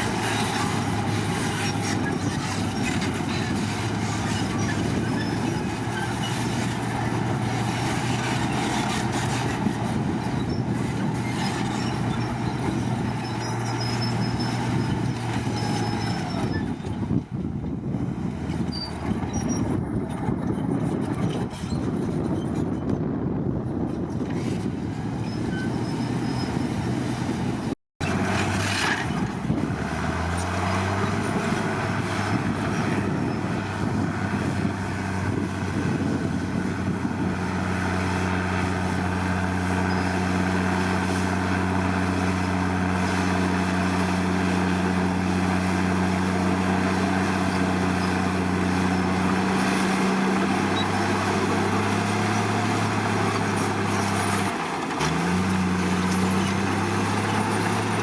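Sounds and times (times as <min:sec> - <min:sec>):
bulldozer diesel engine revving: 0:00.0 - 0:17.1, 0:24.4 - 0:58.0.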